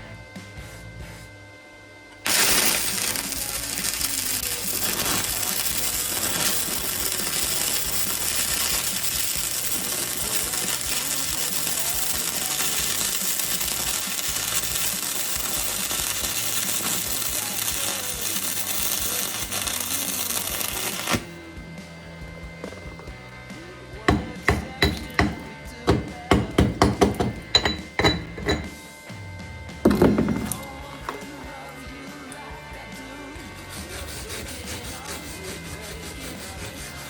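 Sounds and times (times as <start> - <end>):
welding arc crackling and sizzling: 2.2 - 21.5, 24.0 - 29.0, 29.9 - 37.0.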